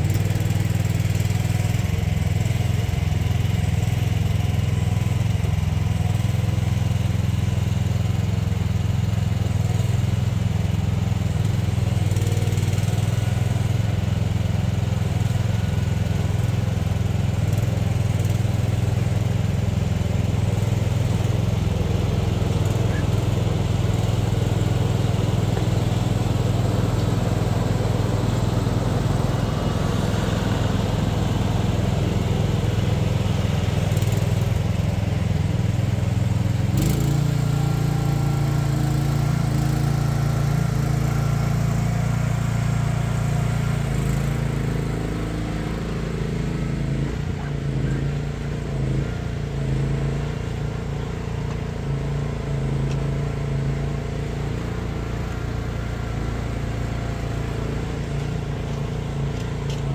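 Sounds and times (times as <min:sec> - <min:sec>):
mini excavator engine: 0:00.0 - 0:59.9
tractor engine: 0:00.0 - 0:59.9.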